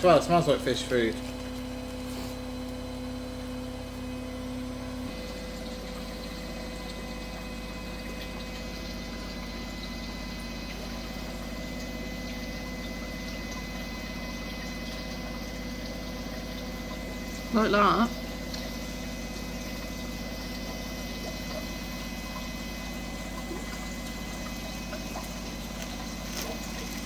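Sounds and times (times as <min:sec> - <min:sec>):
aquarium filter pump humming: 0:00.0 - 0:27.0.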